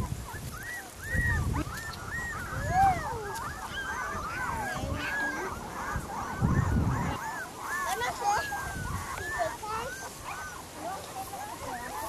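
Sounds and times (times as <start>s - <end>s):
puppies whimpering and squeaking: 0.0s - 12.0s.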